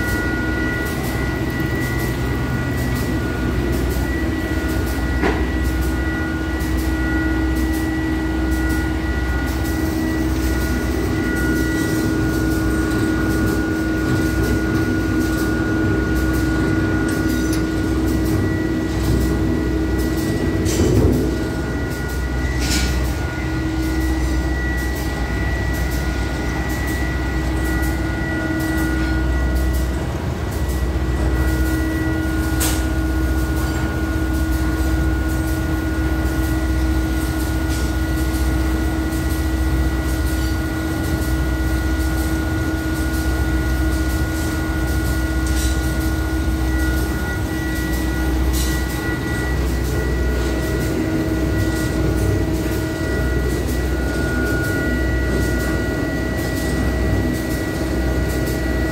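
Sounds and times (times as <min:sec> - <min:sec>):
mixer motor humming and whining: 0:00.0 - 0:58.9.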